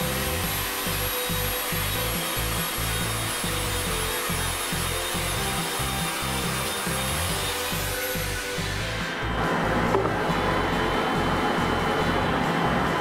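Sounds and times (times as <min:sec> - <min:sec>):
background music: 0:00.0 - 0:13.0
drill press motor running: 0:00.0 - 0:13.0
sanding drum rubbing wood: 0:00.0 - 0:13.0.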